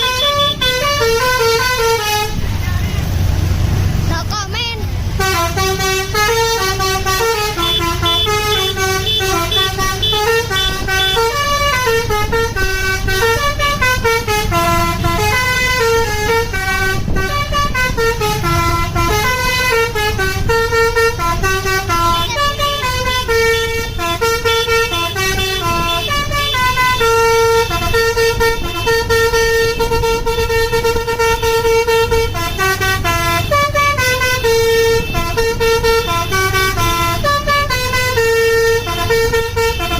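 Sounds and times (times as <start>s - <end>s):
musical bus horn melody: 0.0s - 3.1s, 4.3s - 39.9s.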